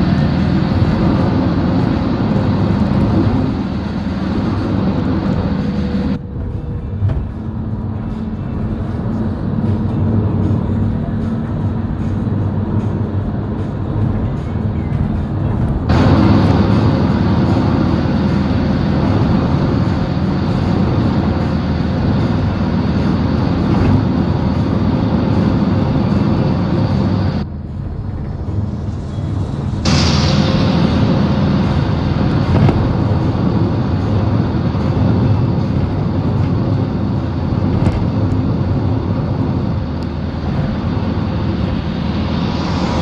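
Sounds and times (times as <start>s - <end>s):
road and wind noise inside vehicle: 0.0s - 43.0s.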